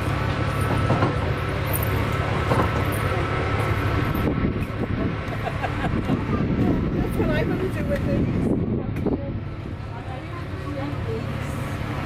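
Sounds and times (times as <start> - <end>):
carriages rumbling: 0.0 - 12.0
low engine hum: 0.0 - 12.0.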